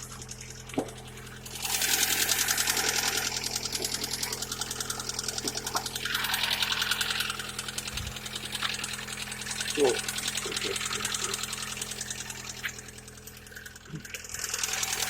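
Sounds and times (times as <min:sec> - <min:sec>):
engine lifters knocking: 0:00.0 - 0:15.0.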